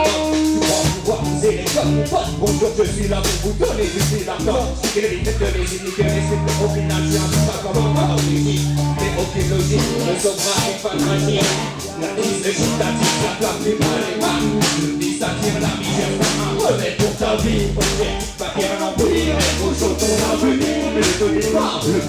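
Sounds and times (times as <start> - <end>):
drum kit beat: 0.0 - 22.0
electric guitar: 0.0 - 22.0
rapping into microphones: 0.0 - 22.0.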